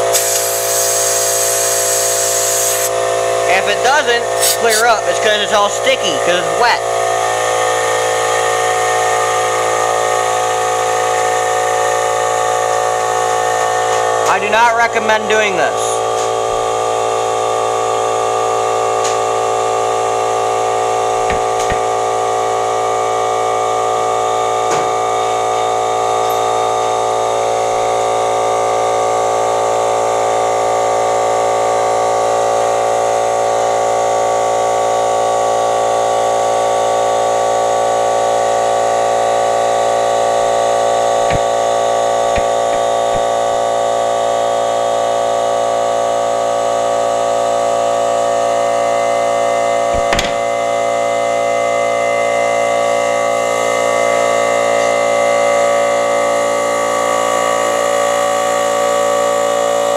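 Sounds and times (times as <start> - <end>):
air compressor running: 0.0 - 59.9.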